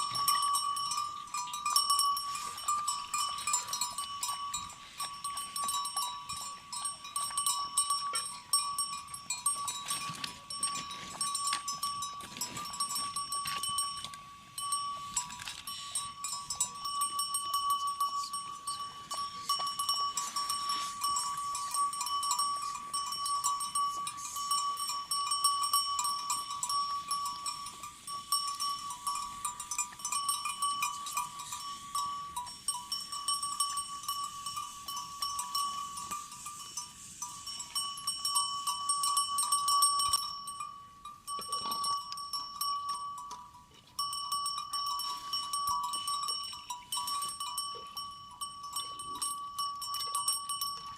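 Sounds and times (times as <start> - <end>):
flock of sheep and goats: 0.0 - 50.9.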